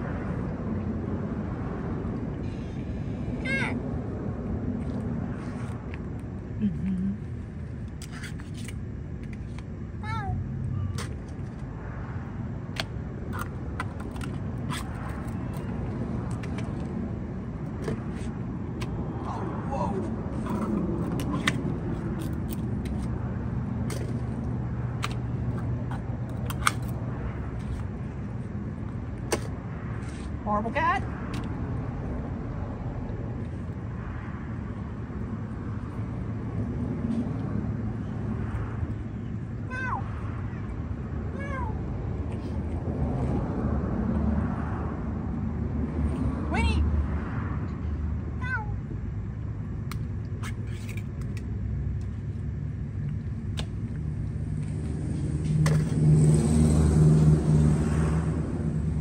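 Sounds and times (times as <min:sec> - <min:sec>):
motor vehicle rumble: 0:00.0 - 0:59.0.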